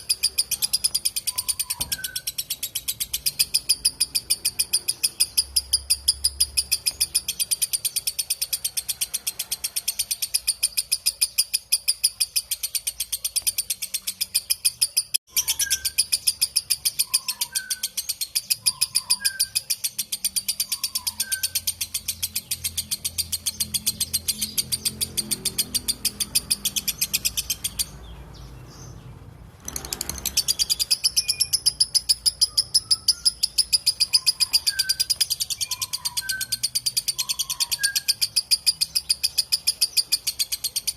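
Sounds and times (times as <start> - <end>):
lovebird chatter: 0.0 - 40.9.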